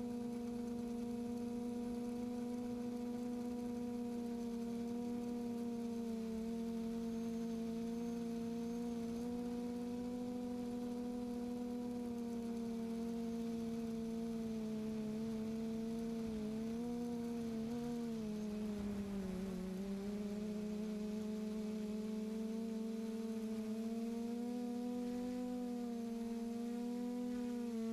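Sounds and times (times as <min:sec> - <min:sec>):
quadcopter propellers humming: 0:00.0 - 0:27.9.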